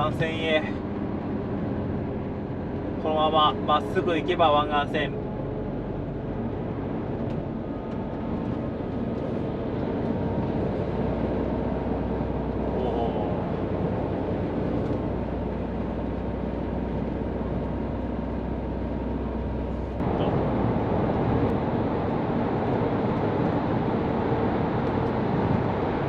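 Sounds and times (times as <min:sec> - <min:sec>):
diesel engine hum: 0:00.0 - 0:26.0
tyre and road noise: 0:00.0 - 0:26.0.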